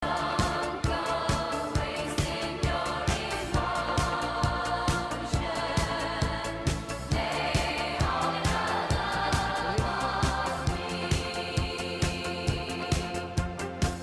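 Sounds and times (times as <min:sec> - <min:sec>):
steady drum beat: 0:00.0 - 0:14.0
sustained singing voices: 0:00.0 - 0:14.0.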